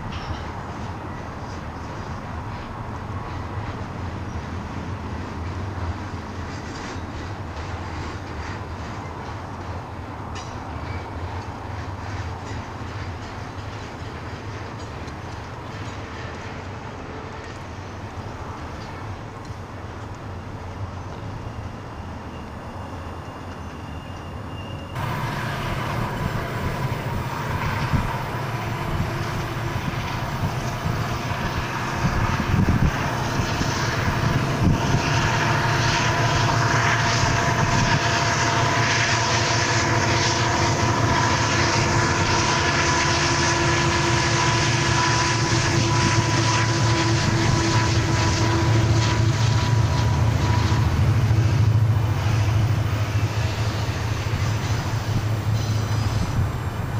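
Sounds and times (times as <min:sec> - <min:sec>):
freight train rumbling past: 0:00.0 - 0:56.9.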